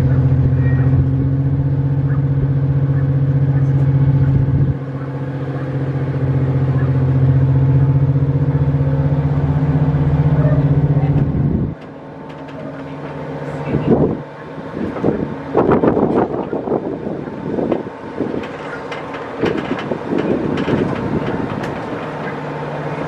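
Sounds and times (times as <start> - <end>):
diesel train engine running: 0.0 - 23.0.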